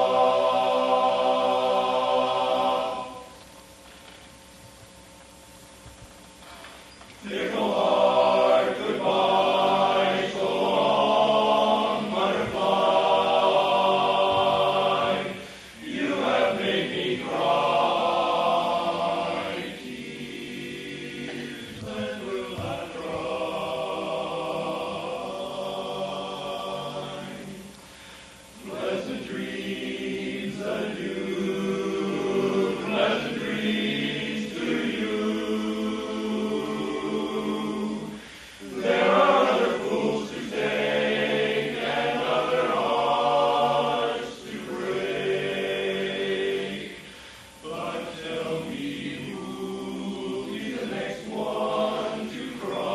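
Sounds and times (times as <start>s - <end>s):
men's chorus singing a cappella: 0.0s - 3.4s, 7.2s - 27.8s, 28.5s - 52.9s.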